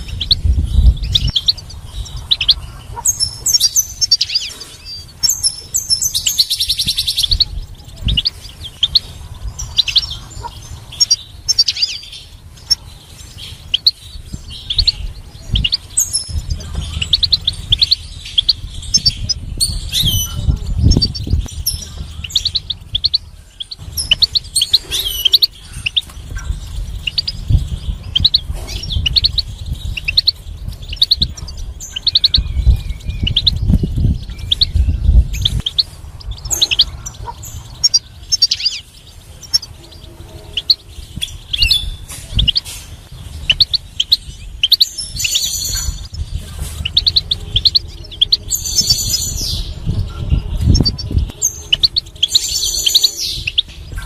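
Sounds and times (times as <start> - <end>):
bird twittering and trilling: 0.0 - 54.0
low rumble: 0.0 - 54.0.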